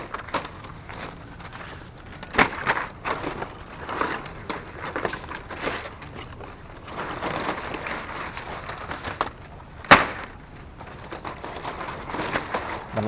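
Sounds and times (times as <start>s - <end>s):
palm leaves rustling: 0.0s - 13.0s
sharp crack: 0.0s - 13.0s.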